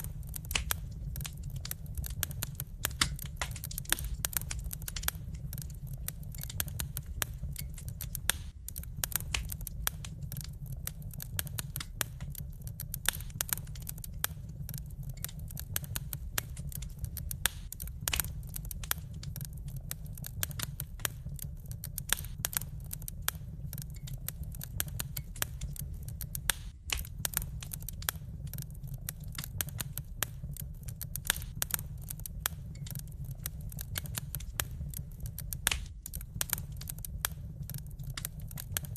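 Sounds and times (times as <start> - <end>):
fire low rumble: 0.0 - 38.9
wood fire crackling: 0.0 - 38.9.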